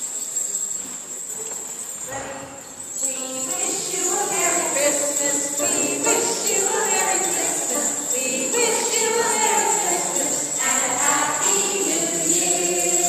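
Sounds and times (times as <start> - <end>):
children's choir singing: 2.1 - 13.0.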